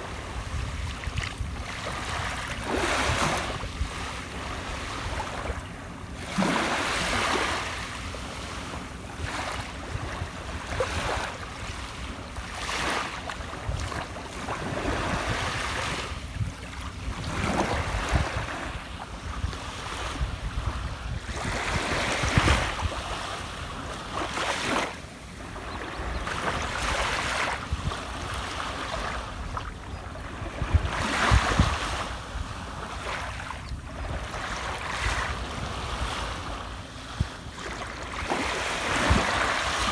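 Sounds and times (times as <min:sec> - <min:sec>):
low rumble of surf: 0:00.0 - 0:39.9
sea waves breaking ashore: 0:00.0 - 0:39.9.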